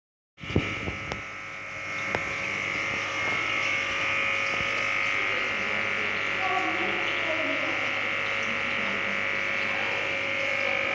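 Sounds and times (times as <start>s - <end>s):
aquarium humming: 0.4s - 10.9s.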